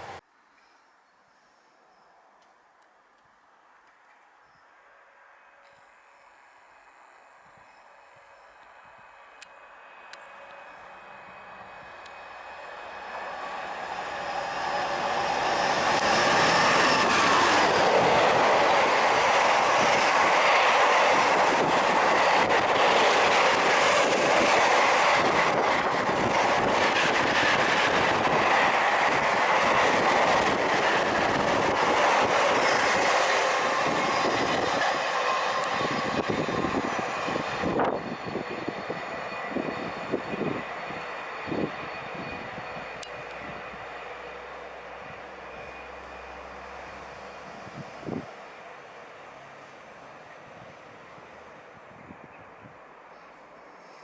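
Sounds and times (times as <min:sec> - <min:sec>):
train wheels on rails: 0:05.4 - 0:54.0.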